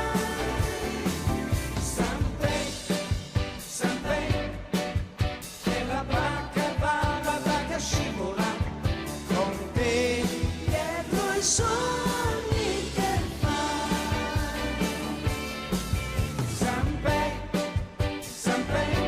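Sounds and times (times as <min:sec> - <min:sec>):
pop-rock song with singing: 0:00.0 - 0:19.0.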